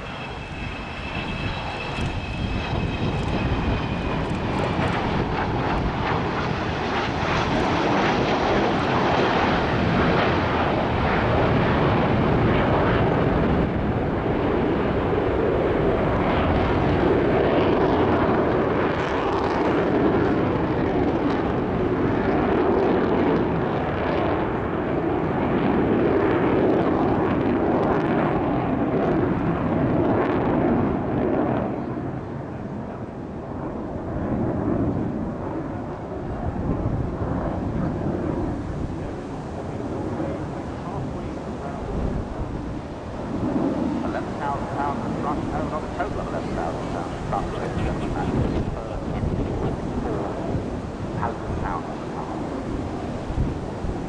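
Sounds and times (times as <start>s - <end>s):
high jet engine whine: 0.0s - 54.0s
jet aircraft roaring past: 0.0s - 54.0s.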